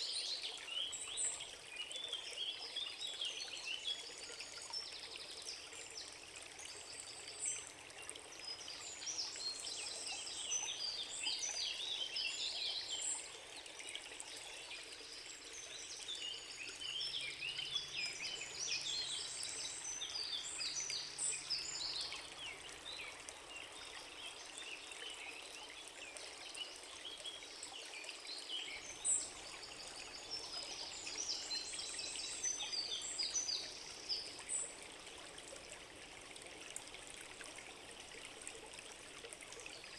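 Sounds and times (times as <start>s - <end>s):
running water rush: 2.5s - 39.9s.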